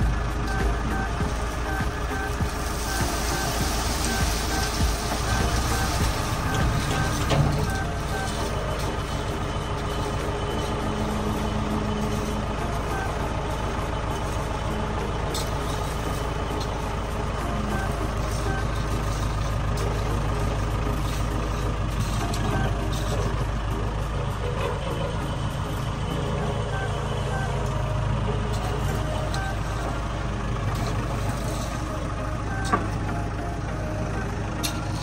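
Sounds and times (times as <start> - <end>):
heavy vehicle engine rumbling: 0.0 - 35.0.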